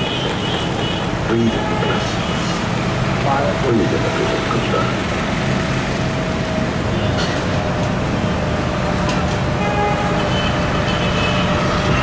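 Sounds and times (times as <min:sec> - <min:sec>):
vehicle and street noise: 0:00.0 - 0:12.0.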